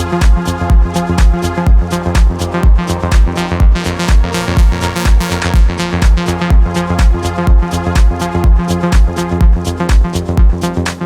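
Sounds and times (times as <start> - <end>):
progressive house music: 0.0 - 11.0.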